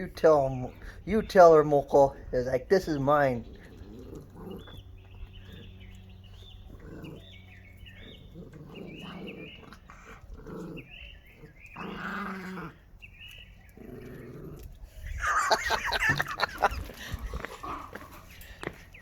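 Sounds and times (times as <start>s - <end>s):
dog growling: 3.0s - 18.4s.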